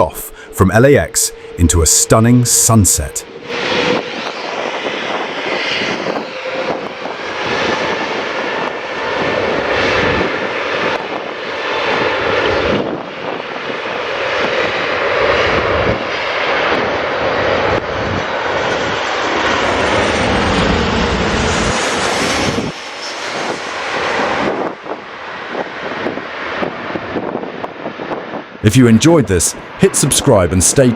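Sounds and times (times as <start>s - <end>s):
faint jet whine: 0.0s - 30.9s
jet engines at takeoff: 0.0s - 30.9s.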